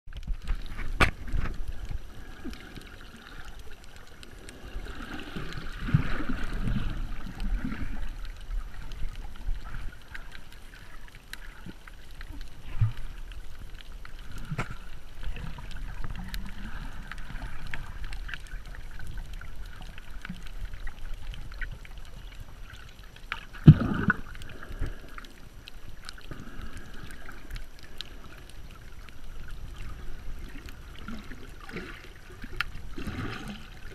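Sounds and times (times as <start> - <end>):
muffled underwater water rumble: 0.1 - 33.9.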